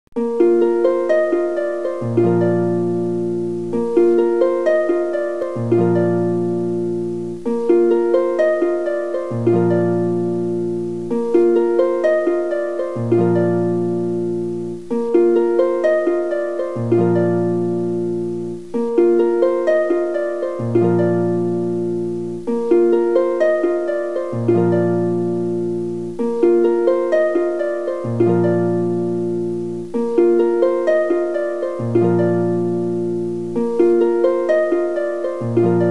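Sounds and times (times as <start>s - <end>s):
plucked string melody: 0.2s - 35.9s.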